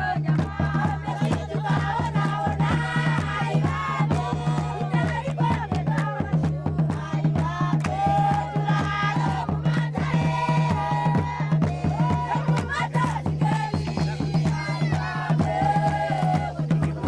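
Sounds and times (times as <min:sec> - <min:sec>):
group of voices singing: 0:00.0 - 0:17.0
steady drum beat: 0:00.0 - 0:17.0.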